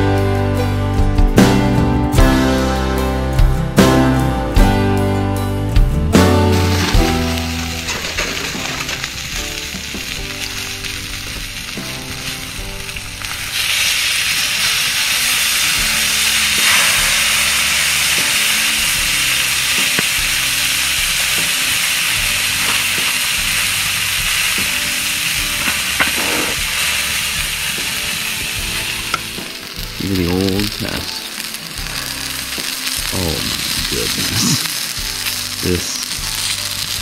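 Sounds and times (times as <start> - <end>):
fish fillets sizzling in a pan: 6.5 - 37.0.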